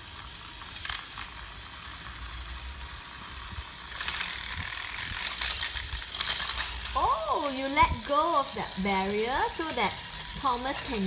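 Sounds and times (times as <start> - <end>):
toy motor and gears whirring: 0.0 - 11.0.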